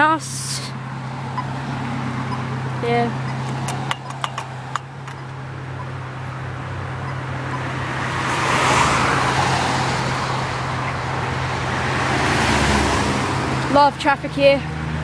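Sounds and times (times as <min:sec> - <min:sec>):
car passing on road: 0:00.0 - 0:15.0.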